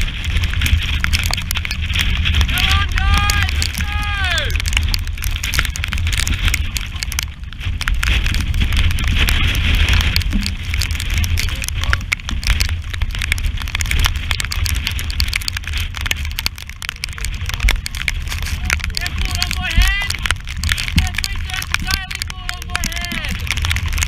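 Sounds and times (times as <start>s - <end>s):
rain and spray spattering: 0.0s - 24.0s
wind buffeting microphone: 0.0s - 24.0s.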